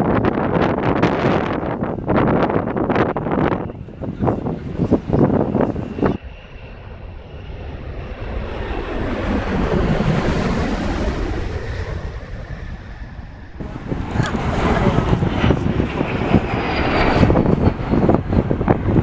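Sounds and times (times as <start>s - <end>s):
wind buffeting microphone: 0.0s - 6.3s, 7.0s - 19.0s
aircraft engine passing by: 0.0s - 19.0s.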